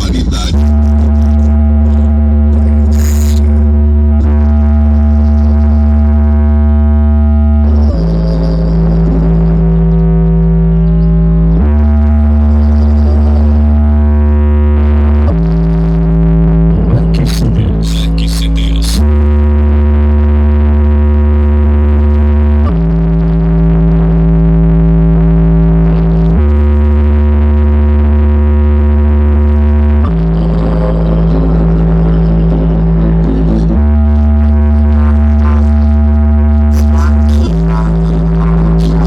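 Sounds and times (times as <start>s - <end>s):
loud bass-heavy music from car speakers: 0.0s - 39.0s.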